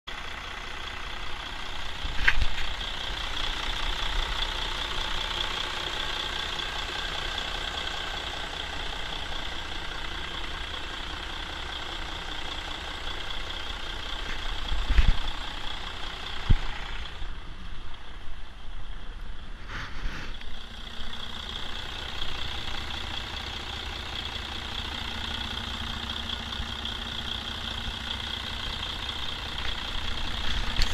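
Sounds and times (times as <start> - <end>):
diesel truck engine idling: 0.1 - 30.9.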